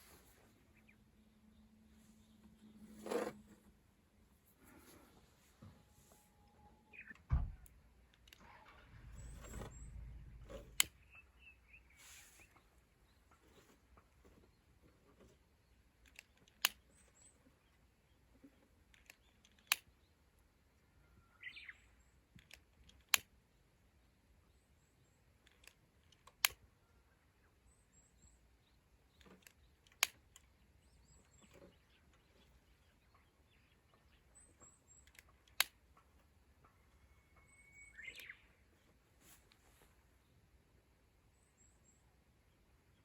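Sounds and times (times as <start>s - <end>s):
small birds chirping: 0.0s - 3.2s, 4.2s - 43.0s.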